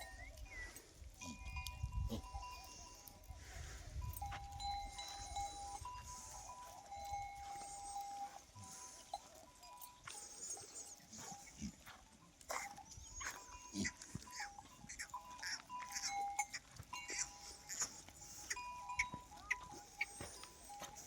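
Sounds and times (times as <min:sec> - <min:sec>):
faint steady tones: 0:00.0 - 0:21.0.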